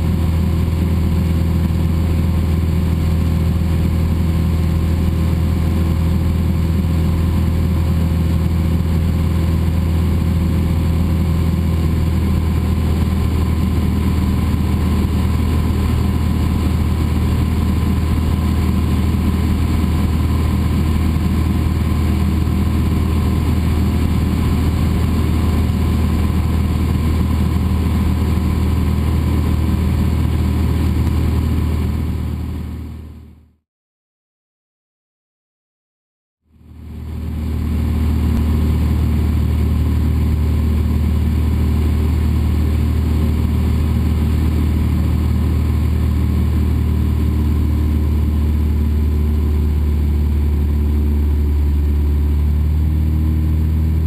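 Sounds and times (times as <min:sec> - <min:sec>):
airplane engine and propeller droning: 0:00.0 - 0:33.4, 0:36.6 - 0:54.0.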